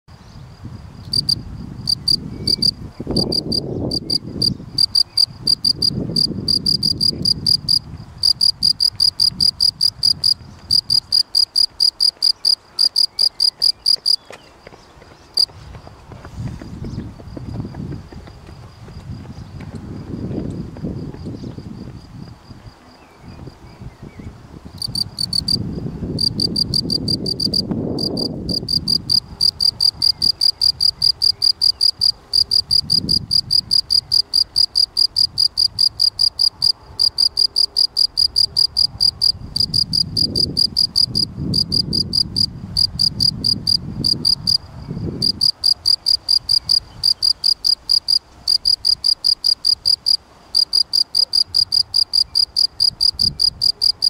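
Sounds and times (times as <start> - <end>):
cricket chirping: 0.1 - 16.0, 16.7 - 54.0.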